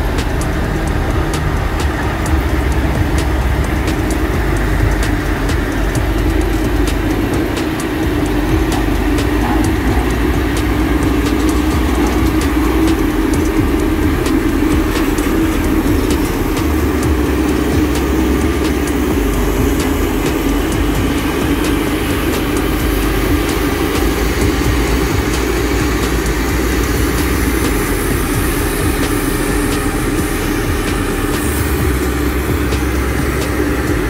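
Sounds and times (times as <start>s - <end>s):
diesel roller engine droning: 0.0s - 34.0s.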